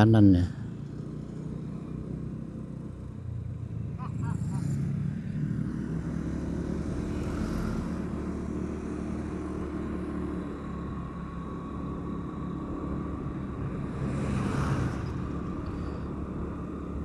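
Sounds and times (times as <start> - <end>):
vehicle engine cruising: 0.0 - 17.0.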